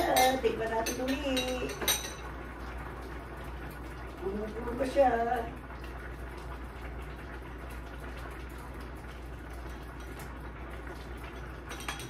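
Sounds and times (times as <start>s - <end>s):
pot of stew simmering: 0.0s - 12.0s.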